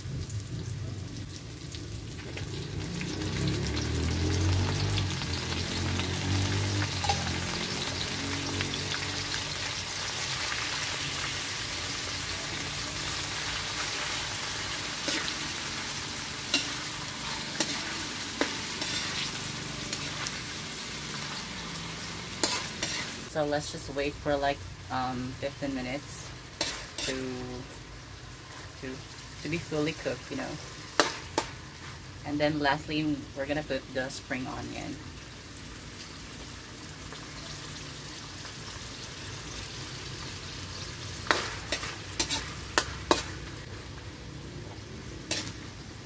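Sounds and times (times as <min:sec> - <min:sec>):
food sizzling in hot oil: 0:00.0 - 0:46.0.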